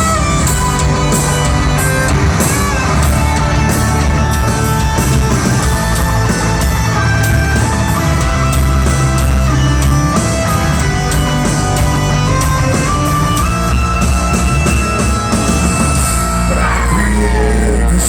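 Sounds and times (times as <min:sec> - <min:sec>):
bass and drums: 0:00.0 - 0:18.0
electric guitar long notes: 0:00.0 - 0:18.0.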